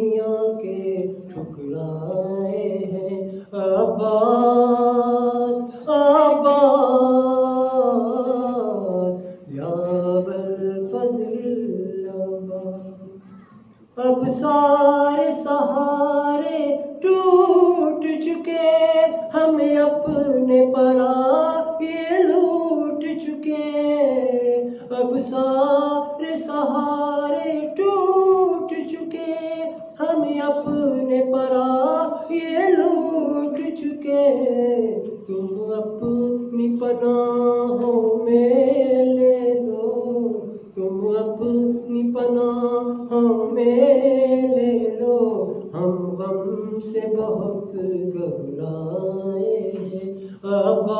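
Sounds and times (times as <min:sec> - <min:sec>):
man singing unaccompanied: 0:00.0 - 0:50.9.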